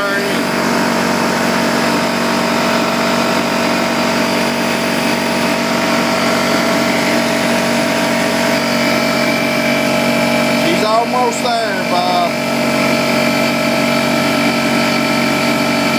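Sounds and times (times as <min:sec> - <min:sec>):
air compressor running: 0:00.0 - 0:15.9.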